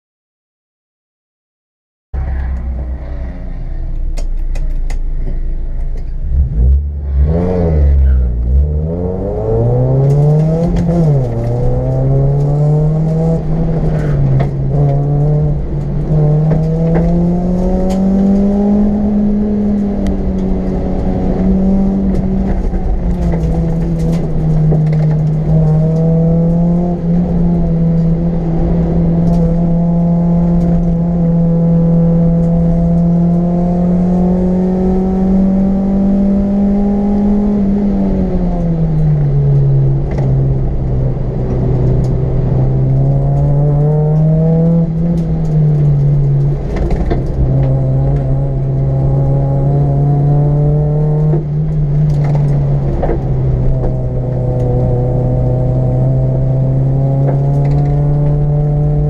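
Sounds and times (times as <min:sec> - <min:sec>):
car engine accelerating through gears: 0:02.2 - 0:59.0.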